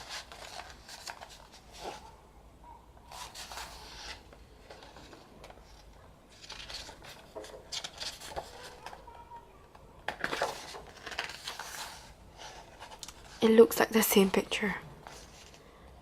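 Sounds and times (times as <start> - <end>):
paper pages rustling: 0.0 - 2.1, 3.1 - 9.2, 10.0 - 15.7.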